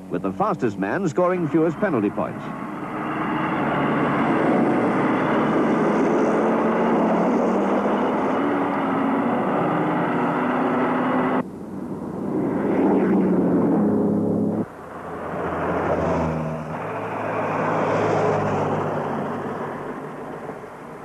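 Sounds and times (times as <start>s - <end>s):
quieter engine: 0.0s - 21.0s.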